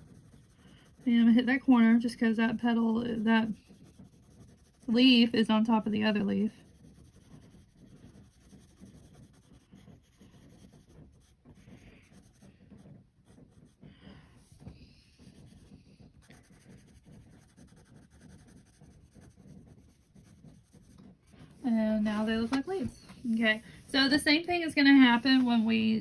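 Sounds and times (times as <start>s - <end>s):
pencil scratching on paper: 0.0s - 26.0s.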